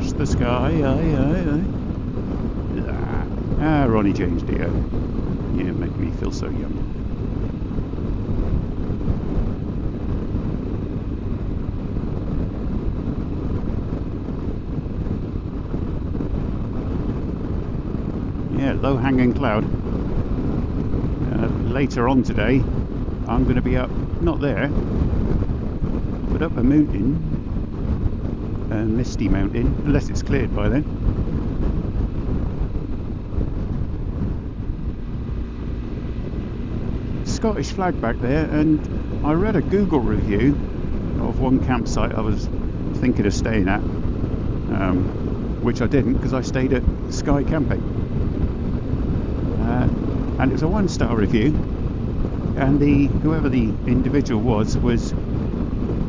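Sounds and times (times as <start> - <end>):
motorcycle engine and road noise: 0.0 - 56.0
wind rushing on microphone: 0.0 - 56.0.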